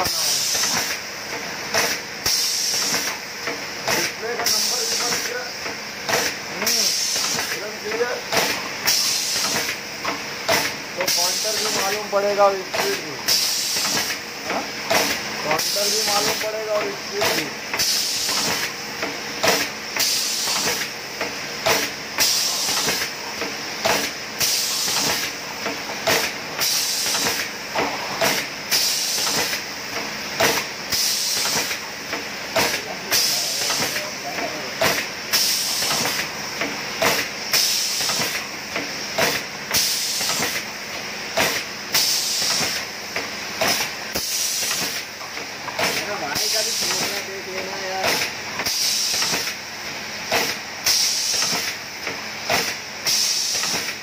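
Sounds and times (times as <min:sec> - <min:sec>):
air cylinders hissing: 0:00.0 - 0:54.0.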